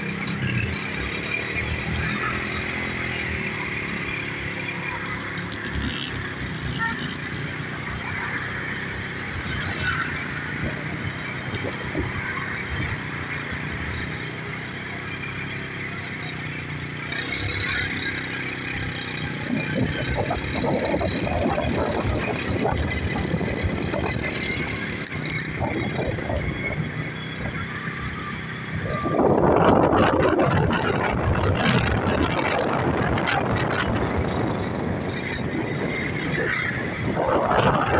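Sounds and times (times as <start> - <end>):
motorcycle engine running: 0.0 - 37.9
road and wind noise: 0.0 - 37.9.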